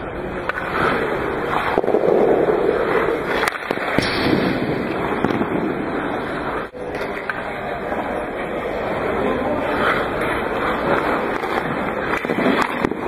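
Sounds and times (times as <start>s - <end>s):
puck striking pads: 0.0s - 7.5s, 9.6s - 13.0s
skates scraping on ice: 0.0s - 13.0s
stick shooting puck: 0.3s - 7.5s, 9.6s - 13.0s.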